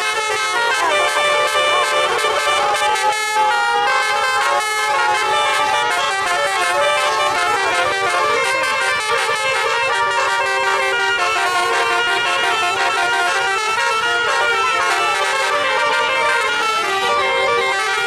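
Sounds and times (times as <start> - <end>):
multi-tone bus horn tune: 0.0 - 18.0.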